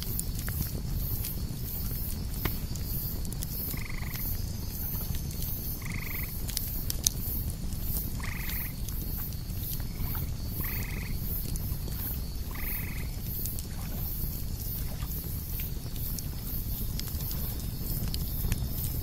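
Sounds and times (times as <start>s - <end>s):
campfire crackling: 0.0s - 19.0s
cicadas pulsing: 0.0s - 19.0s
fire pops and crack: 0.0s - 19.0s.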